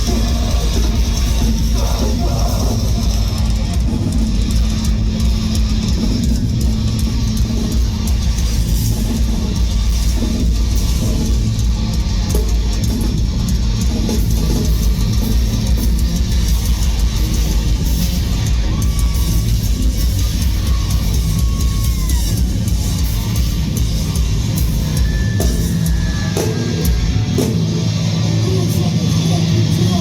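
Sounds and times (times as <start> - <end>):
distorted electric guitars: 0.0 - 30.0
pounding drum kit: 0.0 - 30.0.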